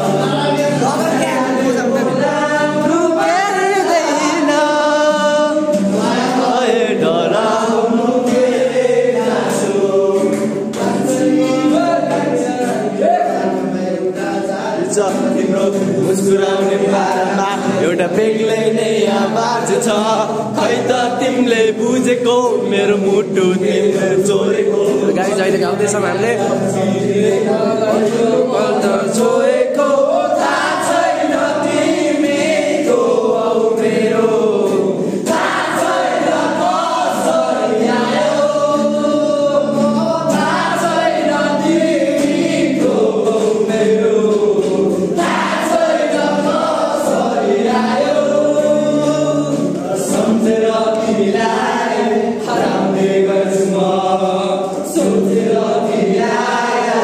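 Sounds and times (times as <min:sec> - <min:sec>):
strummed acoustic guitar: 0:00.0 - 0:57.0
young men singing together: 0:00.0 - 0:57.0.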